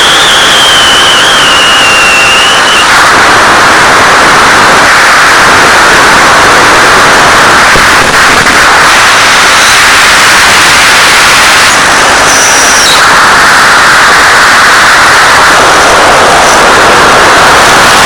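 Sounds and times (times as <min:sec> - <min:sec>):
loud static hiss: 0:00.0 - 0:18.0.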